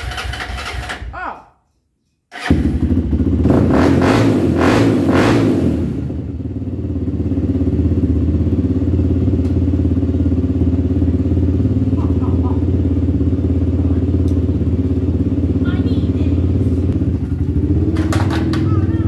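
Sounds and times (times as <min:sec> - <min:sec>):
engine revving and idling: 0:02.4 - 0:19.0.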